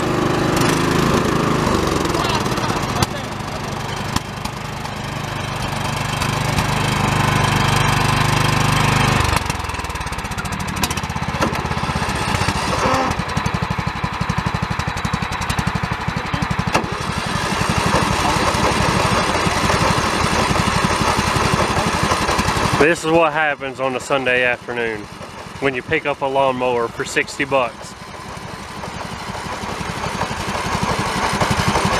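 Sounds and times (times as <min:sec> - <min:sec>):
riding lawn mower engines running: 0:00.0 - 0:31.9.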